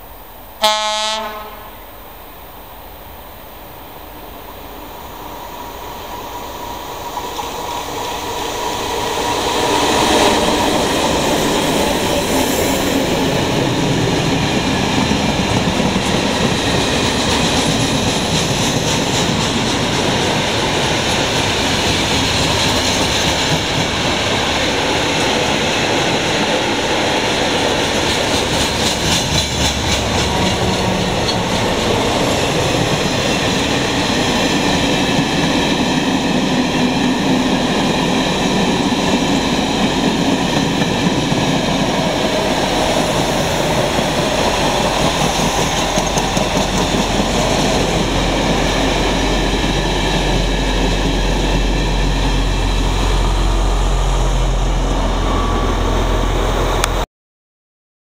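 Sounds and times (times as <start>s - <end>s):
steel wheels rumbling on rails: 4.5s - 57.0s.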